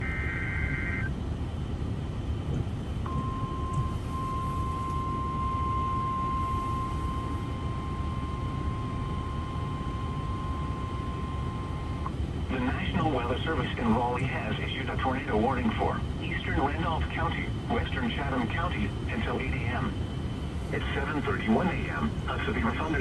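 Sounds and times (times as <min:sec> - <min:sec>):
low rumbling noise: 0:00.0 - 0:23.0.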